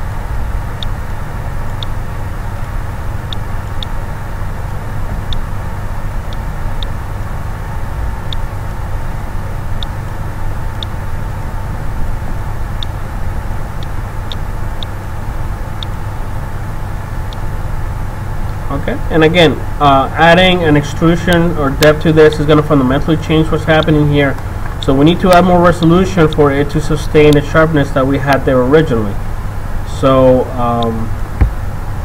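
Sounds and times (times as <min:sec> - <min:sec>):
low hum and hiss: 0:00.0 - 0:32.0.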